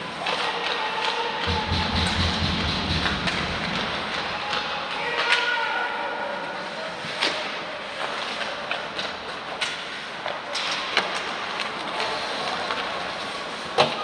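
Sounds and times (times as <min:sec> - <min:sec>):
hockey sticks and puck clacking: 0:00.0 - 0:14.0
skates scraping ice: 0:00.0 - 0:14.0.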